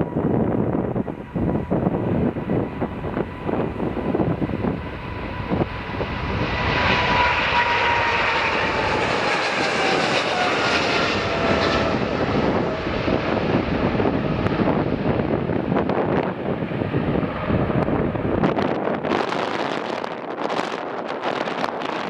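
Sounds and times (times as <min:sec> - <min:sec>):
jet airliner passing: 0:00.0 - 0:22.0
wind buffeting microphone: 0:00.0 - 0:22.0.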